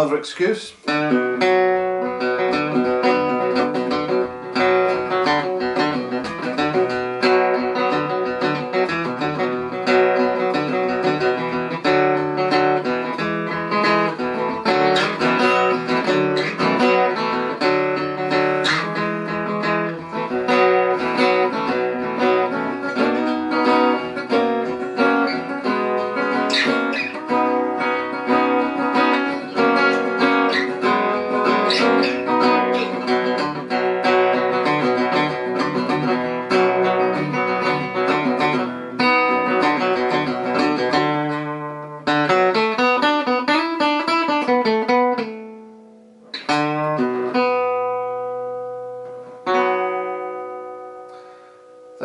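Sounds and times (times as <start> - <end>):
acoustic guitar playing: 0.0 - 52.0.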